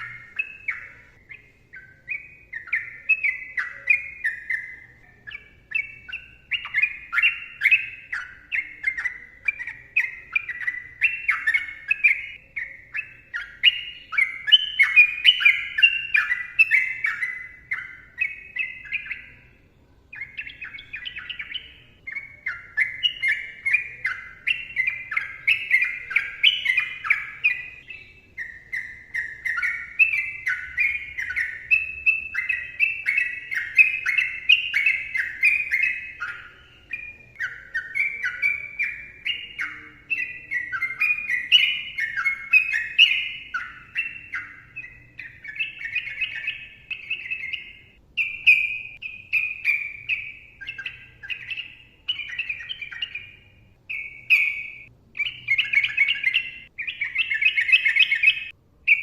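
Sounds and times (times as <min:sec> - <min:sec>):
bird fast chattering song: 0:00.0 - 0:59.0.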